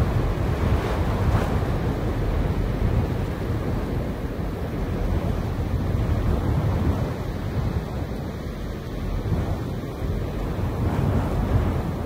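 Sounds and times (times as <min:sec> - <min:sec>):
wind blowing through grass: 0:00.0 - 0:12.0
wind in trees: 0:00.0 - 0:12.0.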